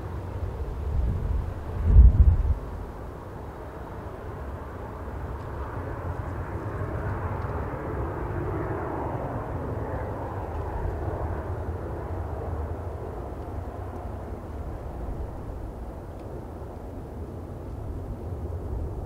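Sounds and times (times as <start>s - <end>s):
jet airliner engine noise: 0.0s - 19.0s
wind rumble on microphone: 0.0s - 19.0s.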